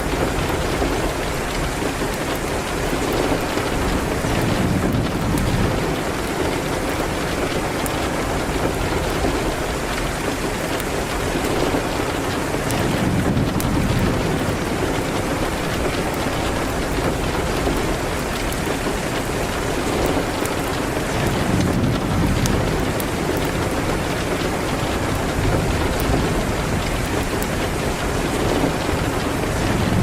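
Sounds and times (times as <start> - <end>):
rain hitting a window: 0.0 - 30.0.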